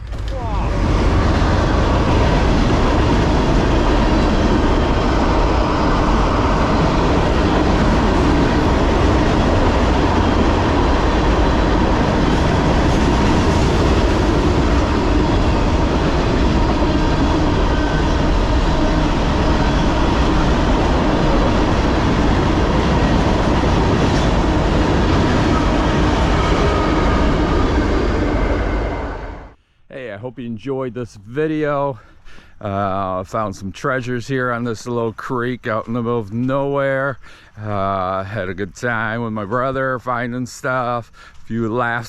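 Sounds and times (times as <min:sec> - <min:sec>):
train rumbling on tracks: 0:00.0 - 0:29.6, 0:32.6 - 0:42.0.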